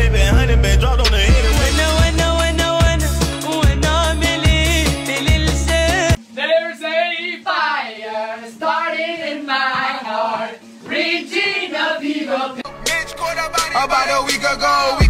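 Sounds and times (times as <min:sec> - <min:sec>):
person singing unaccompanied: 0:00.0 - 0:15.0.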